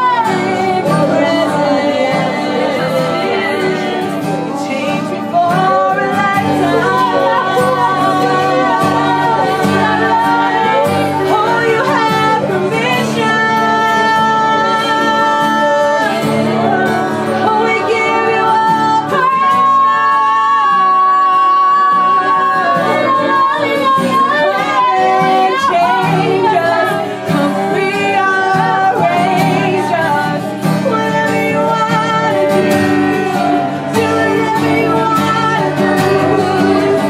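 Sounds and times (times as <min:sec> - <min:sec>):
person singing worship music: 0:00.0 - 0:37.0.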